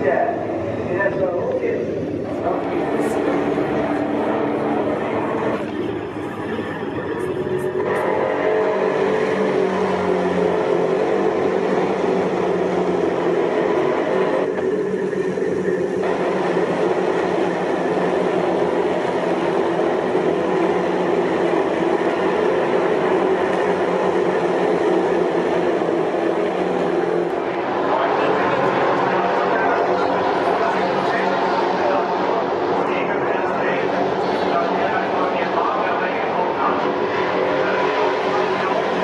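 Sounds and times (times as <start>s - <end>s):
race car engines passing: 0.0s - 39.0s.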